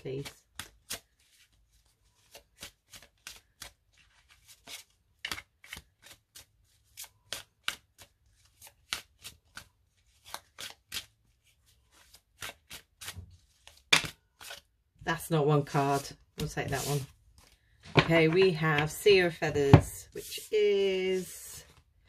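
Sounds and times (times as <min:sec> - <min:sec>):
cards being shuffled: 0:00.0 - 0:14.7, 0:15.7 - 0:19.1.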